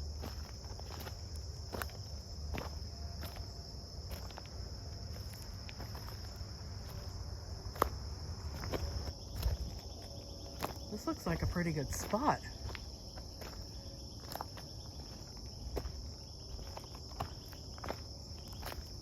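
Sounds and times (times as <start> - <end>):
footsteps on rocky creek bed: 0.0 - 19.0
high-pitched insect trill: 0.0 - 19.0.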